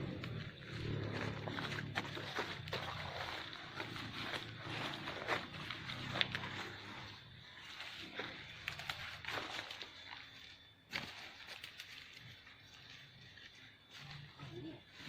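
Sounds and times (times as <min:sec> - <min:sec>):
footsteps and rustling: 0:00.0 - 0:15.0.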